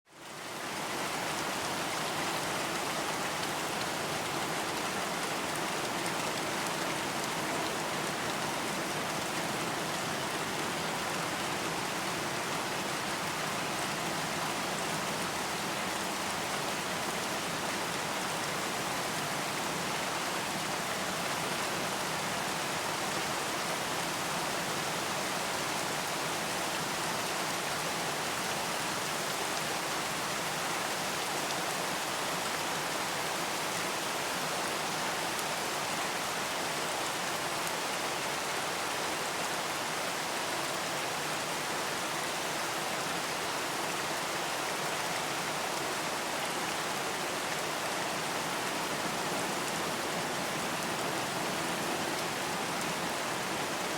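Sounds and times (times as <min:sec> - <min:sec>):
steady rain falling: 0:00.1 - 0:53.9.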